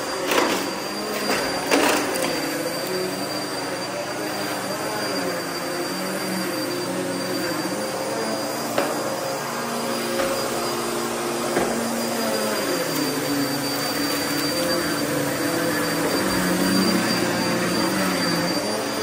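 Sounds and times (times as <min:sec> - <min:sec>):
vacuum cleaner on carpet: 0:00.0 - 0:19.0.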